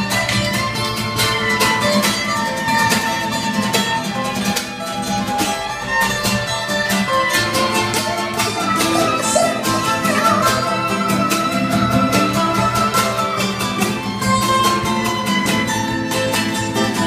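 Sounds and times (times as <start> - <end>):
acoustic guitars strummed: 0.0 - 17.0
violin sliding melody: 0.0 - 17.0.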